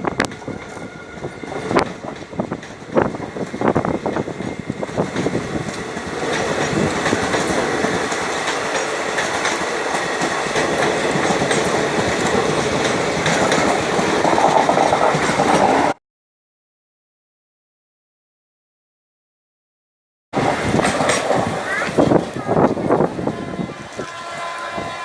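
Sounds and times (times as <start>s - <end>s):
train running on rails: 0.0s - 16.0s, 20.4s - 25.0s.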